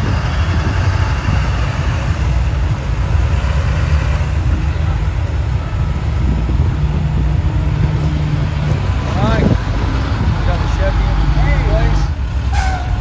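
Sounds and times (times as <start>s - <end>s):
heavy diesel truck engine running: 0.0s - 13.0s.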